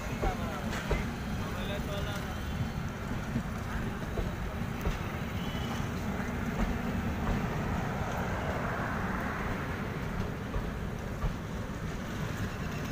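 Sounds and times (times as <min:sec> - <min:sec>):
train wheels rumbling on rails: 0:00.0 - 0:12.9.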